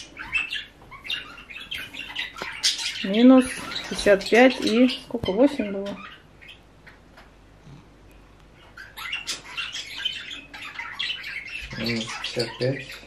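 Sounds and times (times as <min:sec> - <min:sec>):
bird chirping and twittering: 0:00.0 - 0:07.5, 0:08.1 - 0:13.0.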